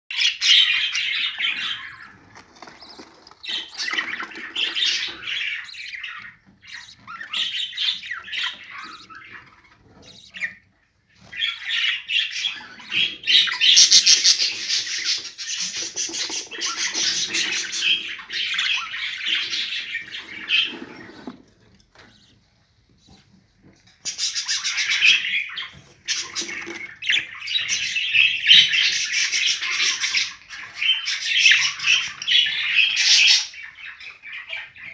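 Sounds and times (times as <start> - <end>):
birds calling and chirping: 0.1 - 34.9.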